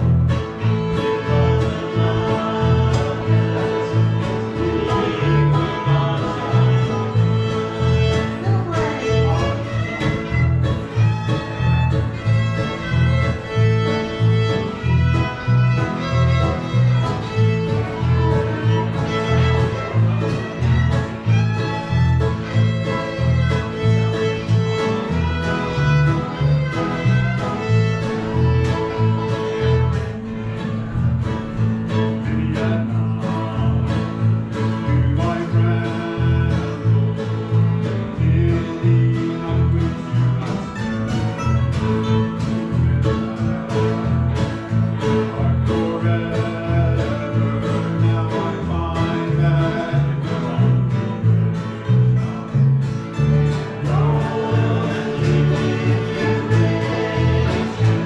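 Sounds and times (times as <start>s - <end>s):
banjo: 0.0s - 58.0s
fiddle: 0.0s - 58.0s
mandolin: 0.0s - 58.0s
strummed acoustic guitars: 0.0s - 58.0s
upright bass pulsing: 0.0s - 58.0s.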